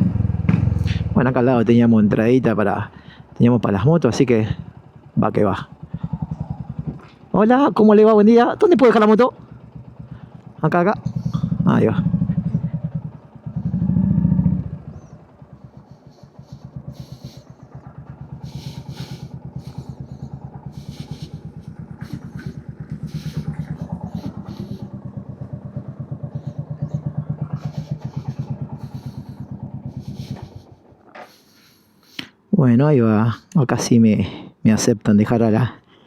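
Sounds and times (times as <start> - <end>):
motorcycle engine idling: 0.0 - 32.2.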